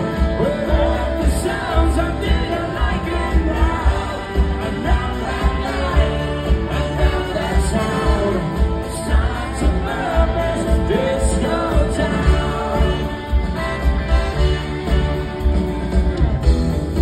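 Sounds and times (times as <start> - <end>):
person singing: 0.0 - 15.2
live rock band playing: 0.0 - 17.0.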